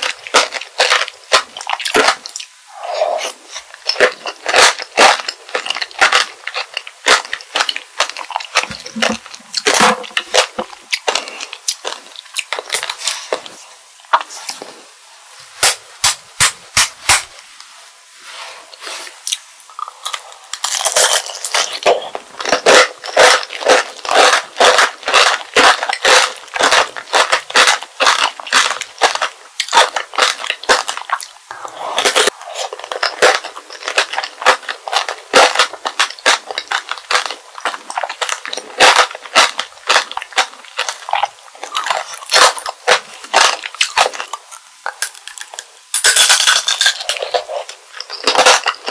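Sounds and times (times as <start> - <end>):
candy shell crunching when chewed: 0.0 - 13.5, 19.3 - 48.9.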